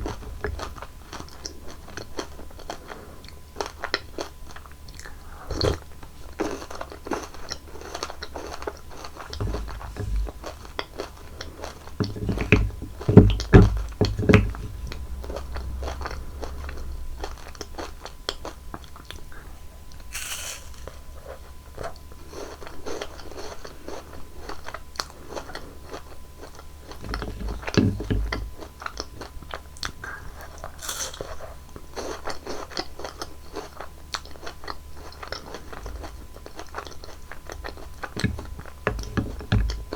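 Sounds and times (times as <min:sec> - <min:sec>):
crunchy candies being chewed: 0:00.0 - 0:39.9.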